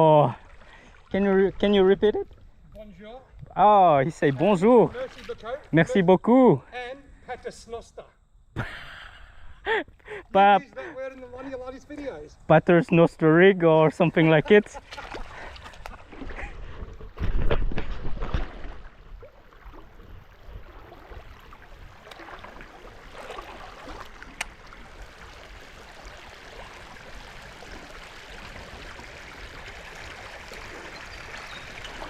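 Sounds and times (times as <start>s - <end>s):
creek water running: 0.0s - 6.6s, 9.7s - 32.0s.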